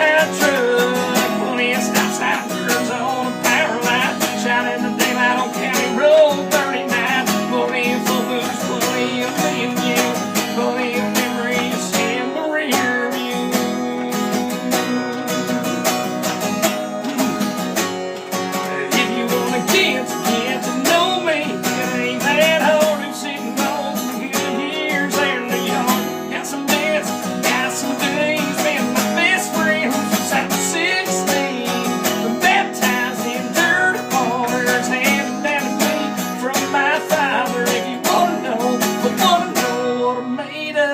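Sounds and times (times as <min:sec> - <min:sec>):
country acoustic guitar music: 0:00.0 - 0:40.9.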